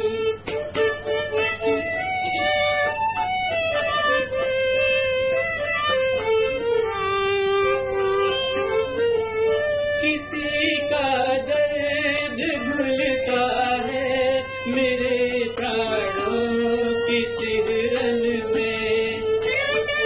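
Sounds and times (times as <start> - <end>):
instrumental accompaniment: 0.0 - 20.0
singing voice with vibrato: 0.0 - 20.0.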